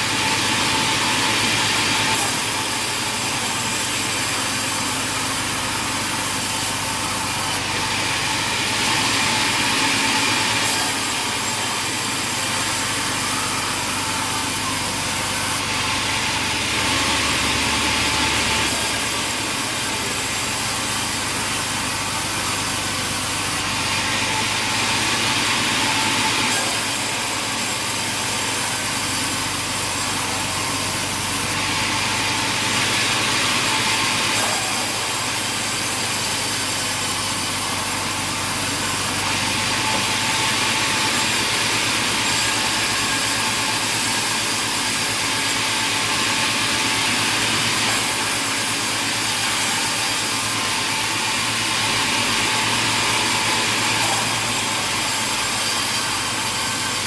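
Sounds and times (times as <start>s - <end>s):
saw cutting through timber: 0.0s - 57.0s
sawmill machinery running: 0.0s - 57.0s.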